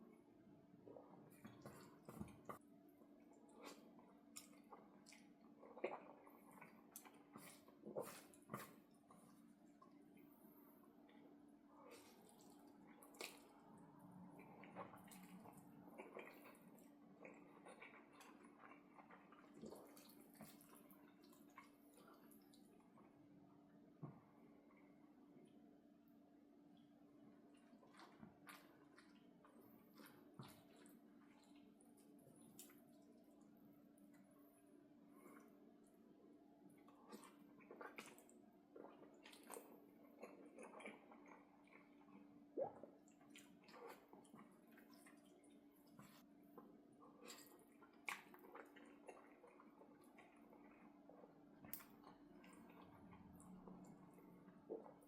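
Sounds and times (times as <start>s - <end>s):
faint steady hum: 0.0s - 55.0s
wet chewing sounds: 0.9s - 23.2s, 27.3s - 34.3s, 36.7s - 55.0s.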